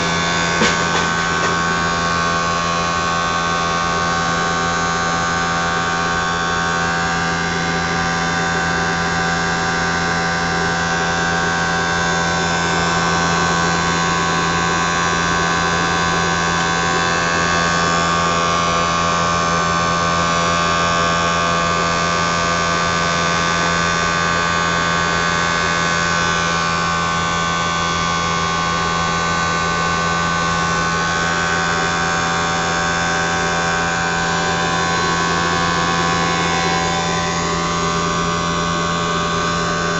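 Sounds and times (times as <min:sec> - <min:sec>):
blower motor humming and whining: 0:00.0 - 0:39.9.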